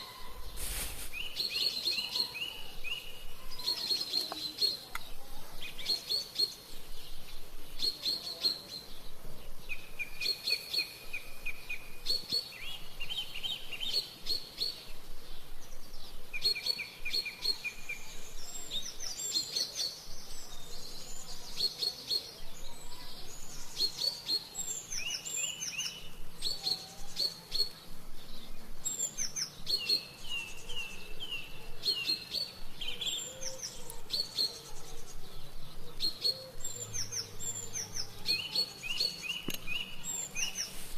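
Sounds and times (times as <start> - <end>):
small songbirds singing: 0.0 - 40.9.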